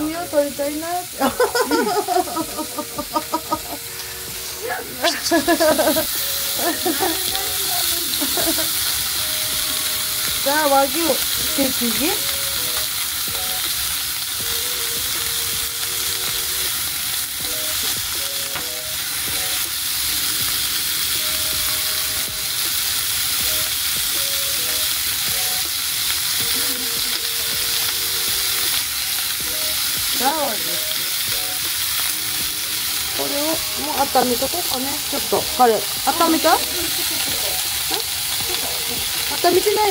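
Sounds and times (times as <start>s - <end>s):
meat sizzling in a frying pan: 0.0s - 39.9s.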